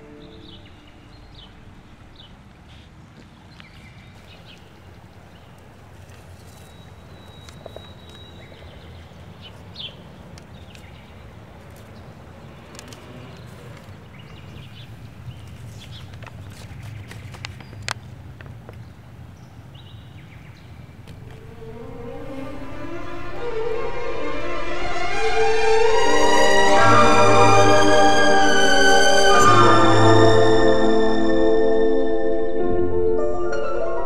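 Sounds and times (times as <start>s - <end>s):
low outdoor rumble: 0.0s - 29.8s.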